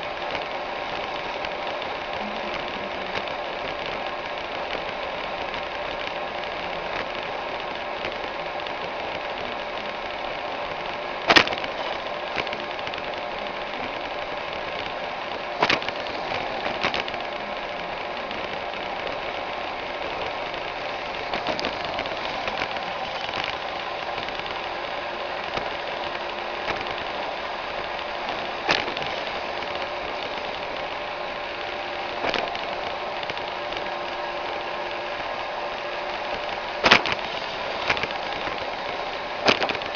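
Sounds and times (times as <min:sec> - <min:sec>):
robot vacuum running: 0:00.0 - 0:39.9.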